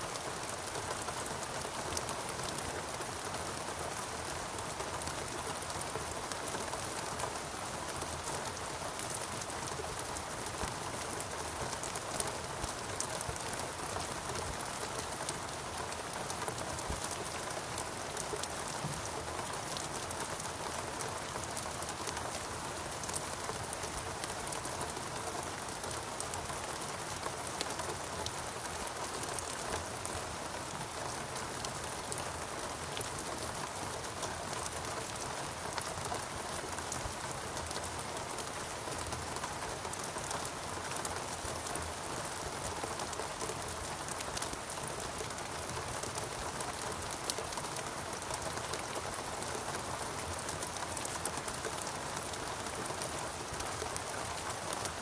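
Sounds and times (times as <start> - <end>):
patter of raindrops: 0.0 - 55.0
steady rain hiss: 0.0 - 55.0.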